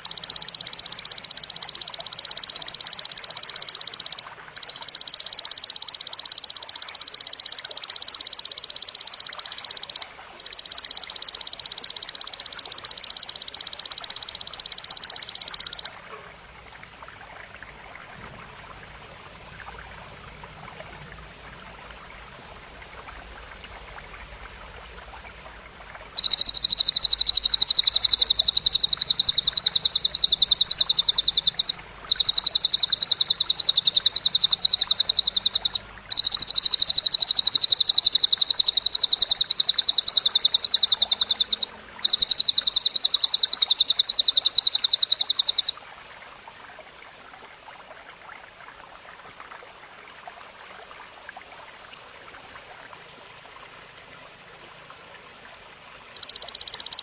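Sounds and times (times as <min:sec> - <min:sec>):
faint trickle of water: 0:00.0 - 0:57.0.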